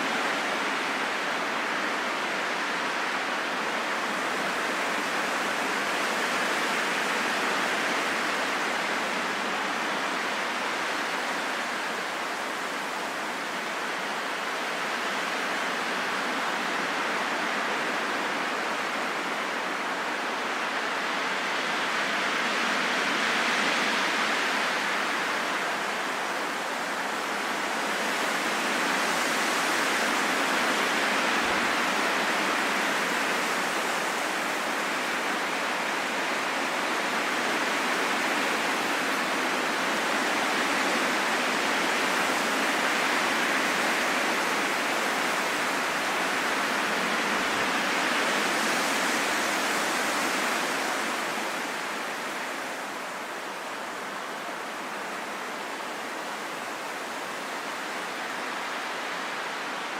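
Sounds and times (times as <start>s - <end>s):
rushing wind: 0.0s - 59.9s.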